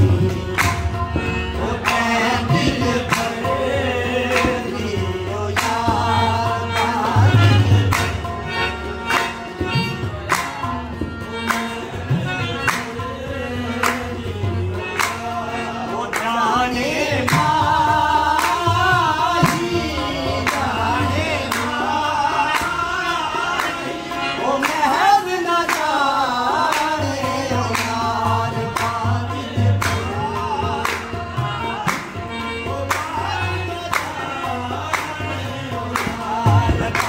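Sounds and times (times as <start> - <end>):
sustained instrumental tones: 0.0 - 37.0
voices singing ornamented melodies: 0.0 - 37.0.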